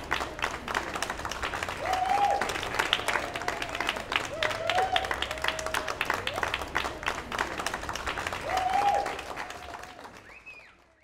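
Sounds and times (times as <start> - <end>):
people clapping and cheering: 0.0 - 11.0.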